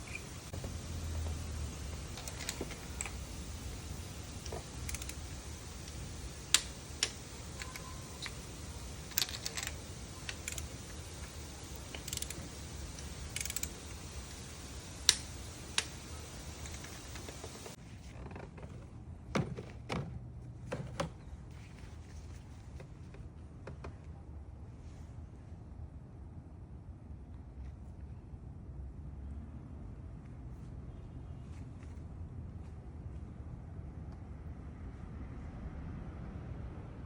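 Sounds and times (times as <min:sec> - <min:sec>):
steady background noise: 0:00.0 - 0:37.0.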